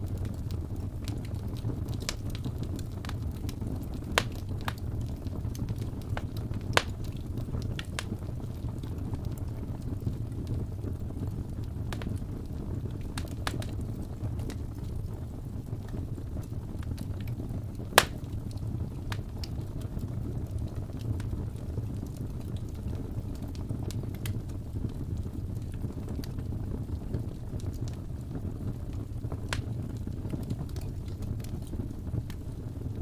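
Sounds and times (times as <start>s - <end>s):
fire crackles and pops: 0.0s - 33.0s
fireplace fire rumbling: 0.0s - 33.0s.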